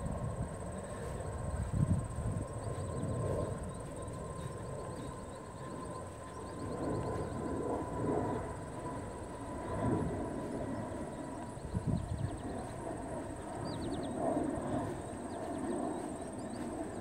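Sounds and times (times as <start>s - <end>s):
low rumble and rustle: 0.0s - 17.0s.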